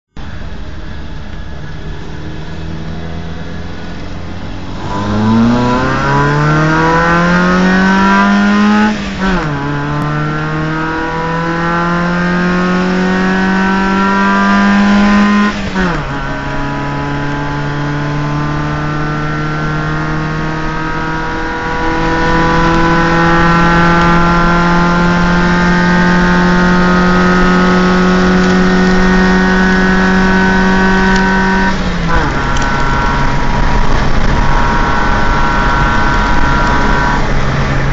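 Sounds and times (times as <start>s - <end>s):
car engine accelerating: 0.2s - 37.9s.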